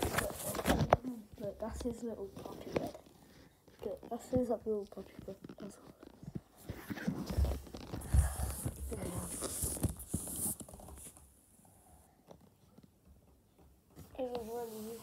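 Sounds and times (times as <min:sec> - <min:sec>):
soft rustling: 0:00.0 - 0:15.0.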